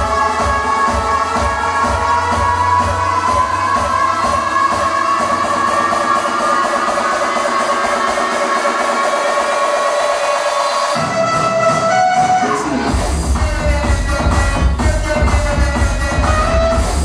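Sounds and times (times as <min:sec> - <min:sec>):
heavy bass from subwoofer: 0:00.0 - 0:17.0
loud music through car speakers: 0:00.0 - 0:17.0.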